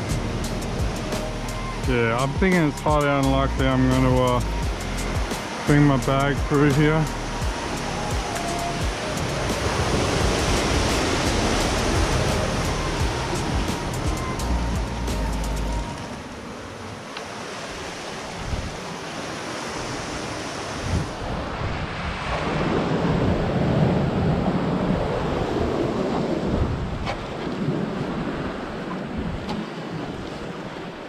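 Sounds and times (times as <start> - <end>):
wind buffeting microphone: 0.0 - 16.4, 17.8 - 18.9, 19.8 - 31.0.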